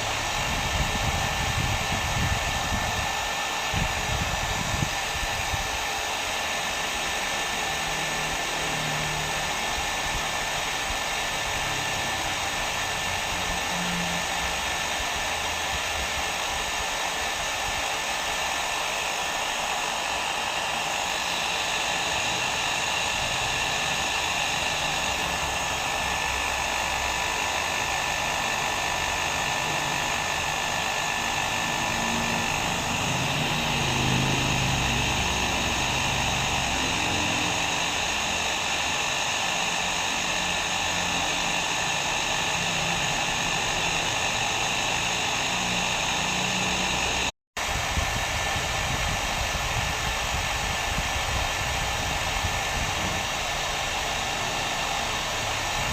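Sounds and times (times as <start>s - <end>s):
hair dryer blowing: 0.0s - 55.9s.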